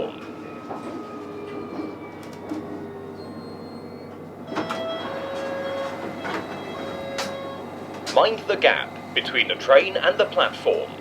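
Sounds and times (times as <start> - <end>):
traction motor whine: 0.0 - 11.0
train interior rumble: 0.0 - 11.0.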